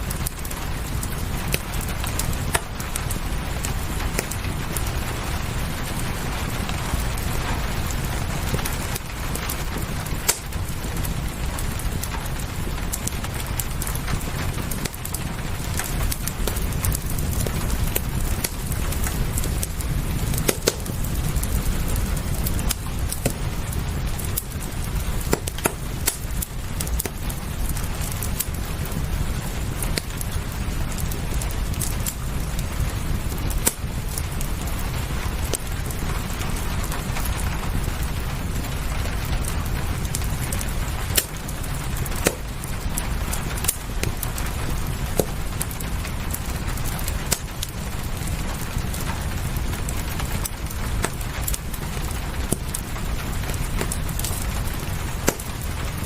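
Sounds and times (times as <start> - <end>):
rain hissing: 0.0 - 56.0
wood fire crackling and popping: 0.0 - 56.0.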